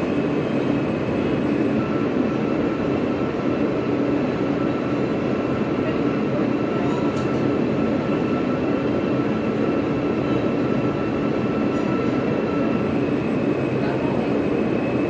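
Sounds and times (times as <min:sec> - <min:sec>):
faint steady whines: 0:00.0 - 0:15.0
subway train rumble on rails: 0:00.0 - 0:15.0.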